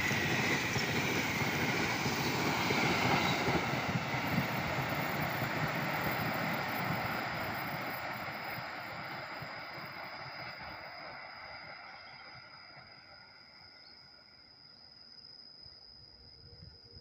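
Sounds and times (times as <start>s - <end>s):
train wheels rolling on rails: 0.0s - 13.7s
insect whine: 0.0s - 17.0s.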